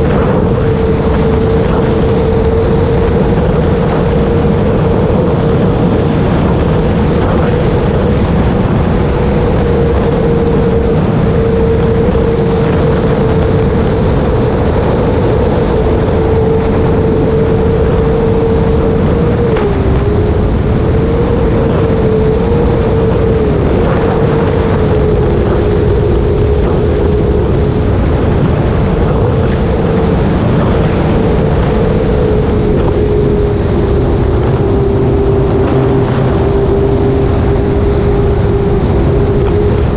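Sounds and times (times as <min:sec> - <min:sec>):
model plane motor whine: 0:00.0 - 0:39.9
rushing wind noise: 0:00.0 - 0:39.9.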